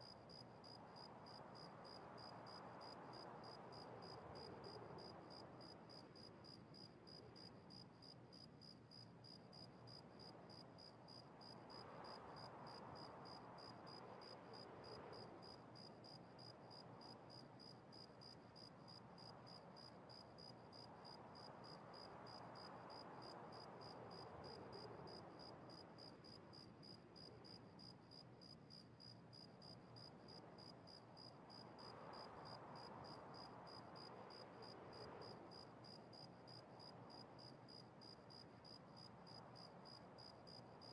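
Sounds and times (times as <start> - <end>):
faint room hiss: 0.0 - 40.9.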